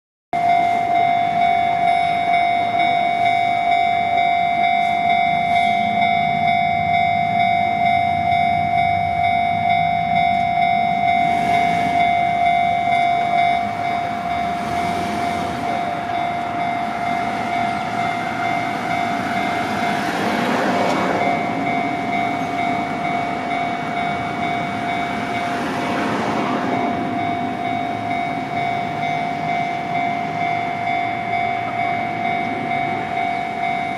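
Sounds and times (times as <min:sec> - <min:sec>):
level crossing bell clanging: 0:00.4 - 0:33.9
train passing over crossing: 0:00.4 - 0:33.9.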